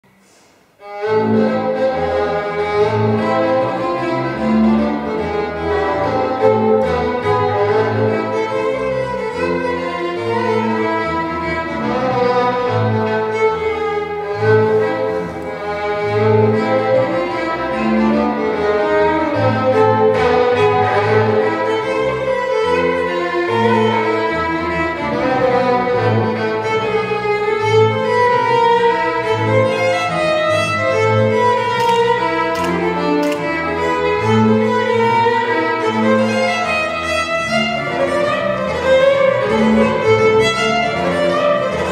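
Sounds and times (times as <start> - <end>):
bowed double bass notes: 0.8 - 41.9
violin playing fiddle tune: 0.8 - 41.9.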